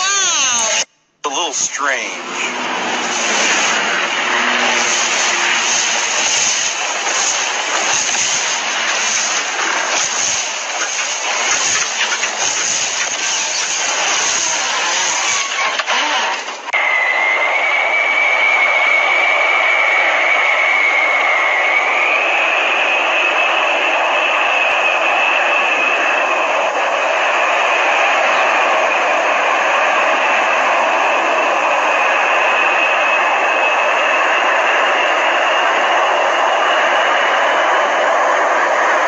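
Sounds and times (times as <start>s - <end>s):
jet engines whining: 0.0s - 39.0s
pulsing rushing noise: 1.5s - 15.4s, 16.8s - 39.0s.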